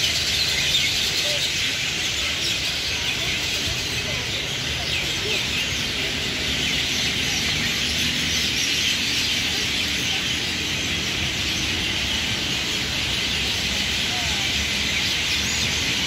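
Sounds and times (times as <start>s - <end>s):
many birds chirping: 0.0s - 16.0s.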